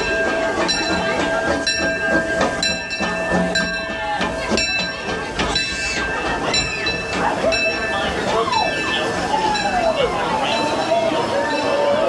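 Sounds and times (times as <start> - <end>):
metallic ringing from wheels: 0.0 - 12.0
train wheels clacking on rail joints: 0.0 - 12.0.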